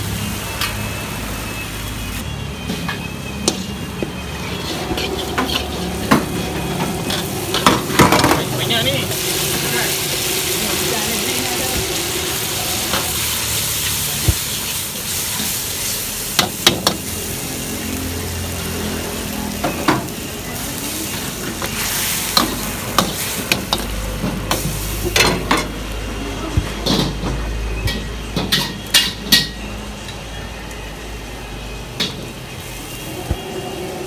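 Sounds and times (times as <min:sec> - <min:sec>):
food sizzling in a wok: 0:00.0 - 0:34.0.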